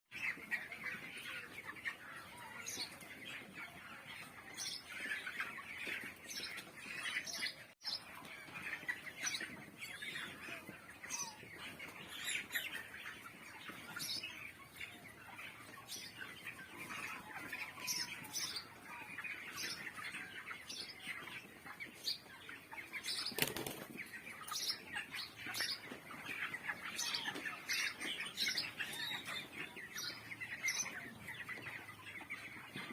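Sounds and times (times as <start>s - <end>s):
chicks peeping and chirping: 0.1s - 32.9s.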